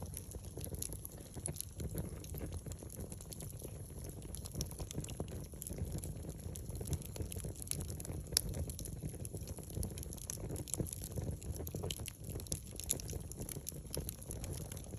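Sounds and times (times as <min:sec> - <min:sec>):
low rumble of flame: 0:00.0 - 0:14.9
wood fire crackling: 0:00.0 - 0:14.9.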